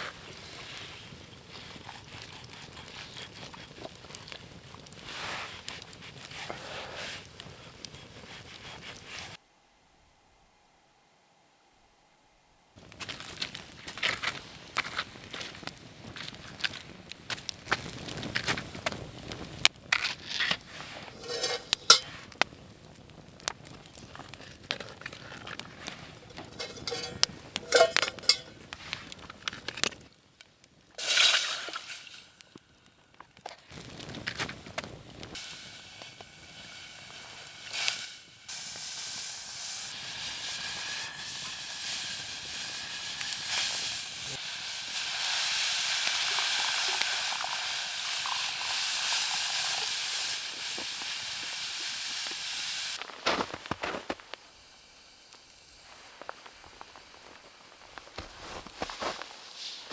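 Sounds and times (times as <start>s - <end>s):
campfire crackling and popping: 0.0s - 9.4s, 12.8s - 59.9s
steady sizzling hiss: 0.0s - 59.9s.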